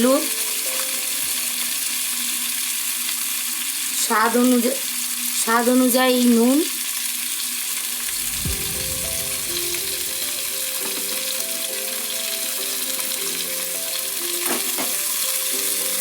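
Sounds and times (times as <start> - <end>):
soft background music: 0.0 - 16.0
vegetables sizzling in oil: 0.0 - 16.0.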